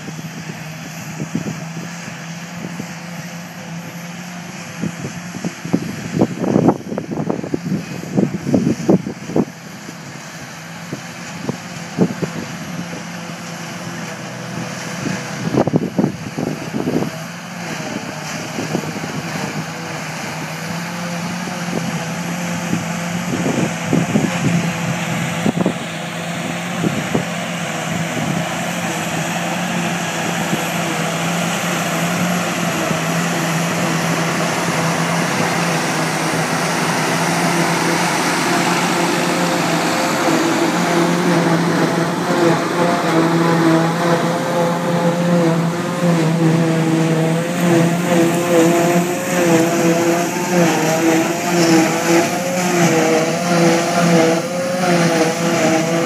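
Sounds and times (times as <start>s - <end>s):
forage harvester whine: 0.0s - 56.0s
tractor engine drone: 0.0s - 56.0s.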